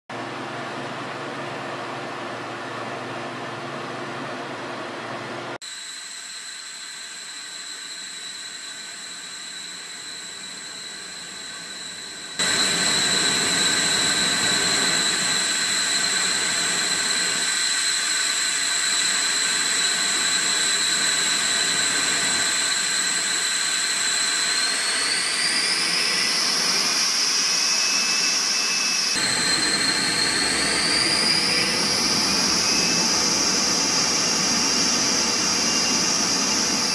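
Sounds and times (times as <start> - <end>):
high-pitched jet engine whine: 0.2 - 36.9.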